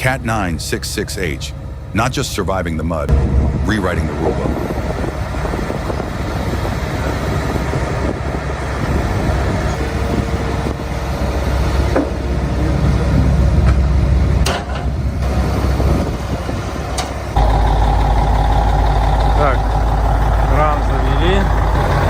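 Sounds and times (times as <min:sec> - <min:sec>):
diesel engine rumbling under load: 0:00.0 - 0:22.0.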